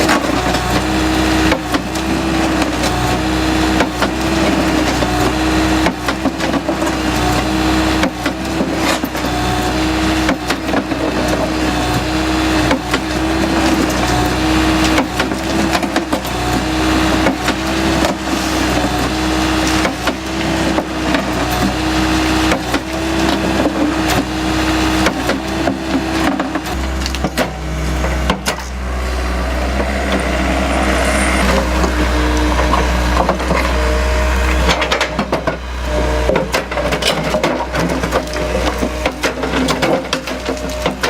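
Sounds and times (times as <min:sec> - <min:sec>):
crusher bucket crushing concrete: 0:00.0 - 0:41.0
excavator engine running: 0:00.0 - 0:41.0.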